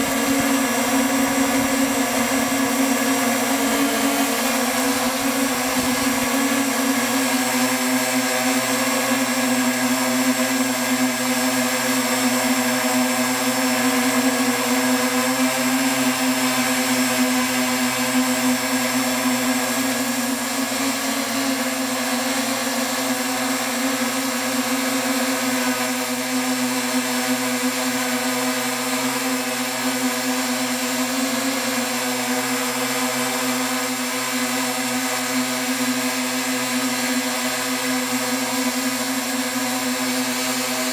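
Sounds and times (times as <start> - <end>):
drone motors and propellers humming: 0.0 - 40.9.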